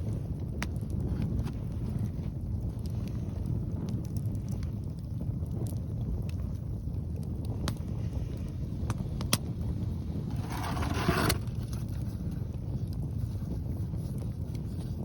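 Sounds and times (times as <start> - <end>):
campfire crackling pops: 0.0 - 15.0
wind buffeting microphone: 0.0 - 15.0.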